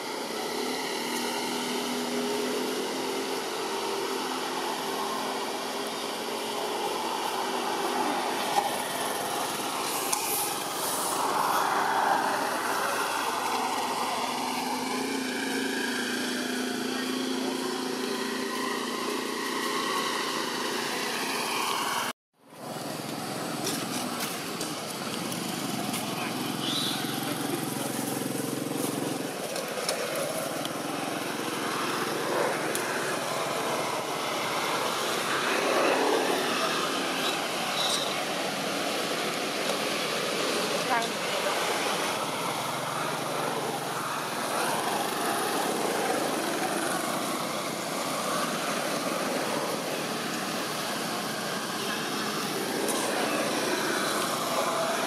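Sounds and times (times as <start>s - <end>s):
engine hum: 0.0s - 55.0s.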